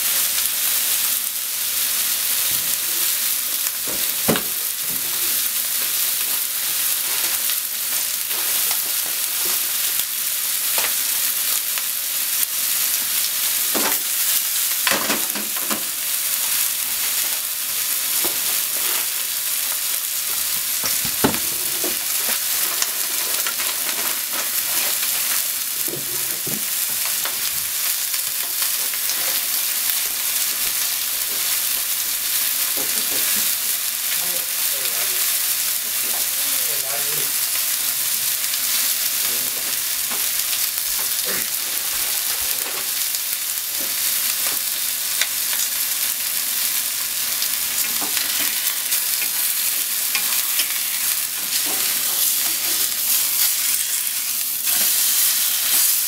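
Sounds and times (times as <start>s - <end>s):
chicken sizzling in frying pan: 0.0s - 56.0s
oil spatter crackles: 0.2s - 56.0s.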